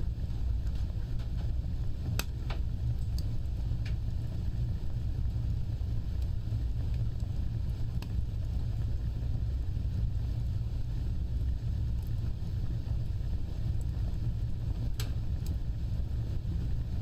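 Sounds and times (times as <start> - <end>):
fire crackles: 0.0 - 17.0
wood fire roaring: 0.0 - 17.0.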